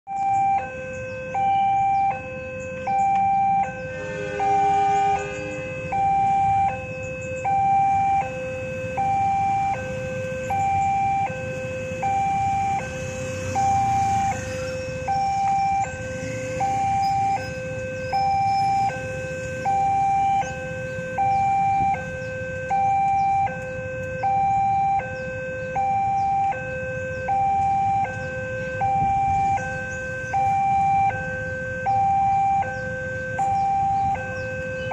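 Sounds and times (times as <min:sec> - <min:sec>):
motorcycle engines running: 0:00.1 - 0:34.9
two-tone crossing warning alarm: 0:00.1 - 0:34.9.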